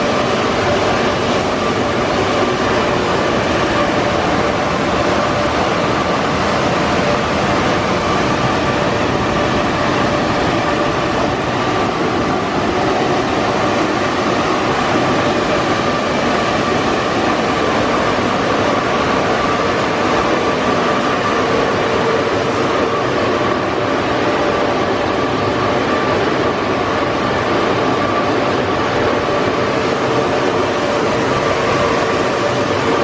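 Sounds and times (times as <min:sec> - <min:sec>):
car wash machinery rushing: 0:00.0 - 0:25.4, 0:28.1 - 0:33.0.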